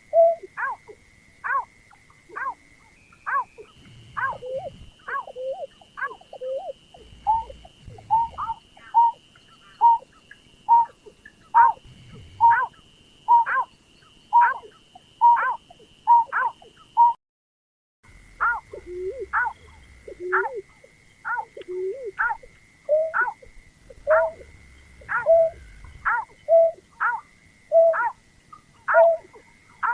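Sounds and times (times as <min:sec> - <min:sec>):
bird hooting call: 0:00.0 - 0:13.7, 0:14.3 - 0:17.2, 0:18.4 - 0:29.9
faint steady high whine: 0:00.0 - 0:17.2, 0:18.0 - 0:29.9.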